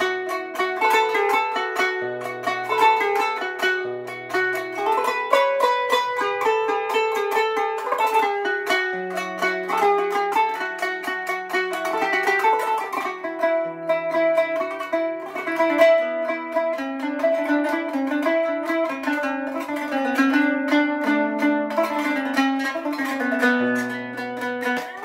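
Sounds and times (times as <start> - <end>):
plucked zither improvisation: 0.0 - 25.0.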